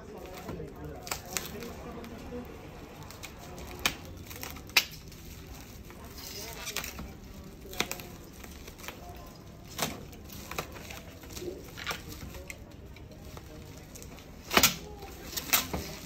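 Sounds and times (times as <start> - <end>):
packaging rustling: 0.0 - 16.0.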